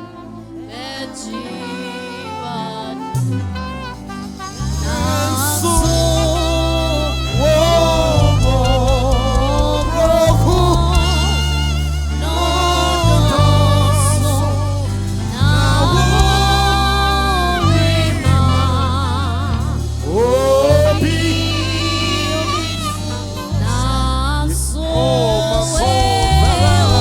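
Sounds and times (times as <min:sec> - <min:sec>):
bass and keyboard chords: 0:00.0 - 0:27.0
gospel singing: 0:00.0 - 0:27.0.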